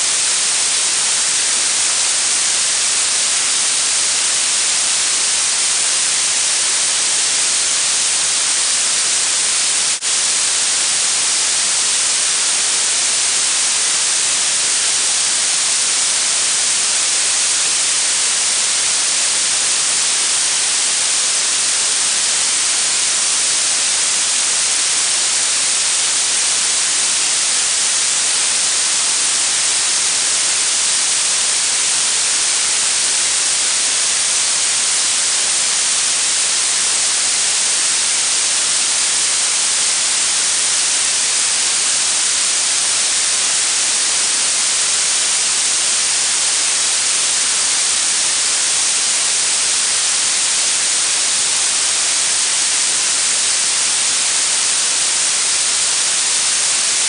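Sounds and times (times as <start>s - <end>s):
high-pitched steady hiss: 0.0s - 57.0s.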